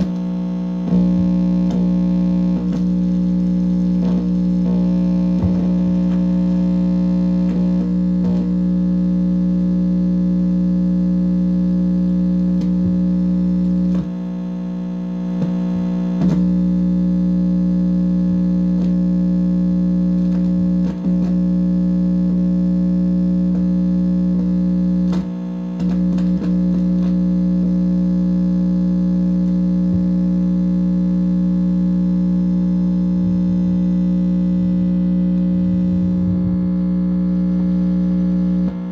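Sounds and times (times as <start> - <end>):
electronic buzz through amplifier: 0.0 - 38.9.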